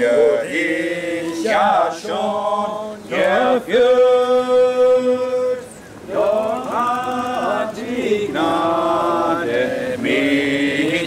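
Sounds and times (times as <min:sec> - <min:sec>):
group singing a hymn: 0:00.0 - 0:11.0.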